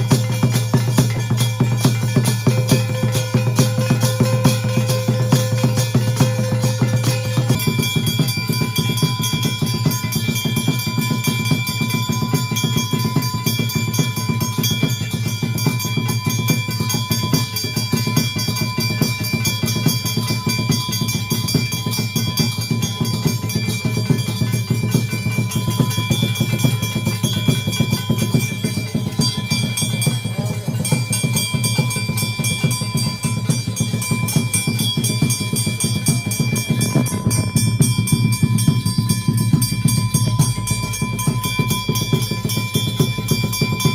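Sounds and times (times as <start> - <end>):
fast continuous drumming: 0.0 - 43.9
steady ringing tones: 0.0 - 43.9.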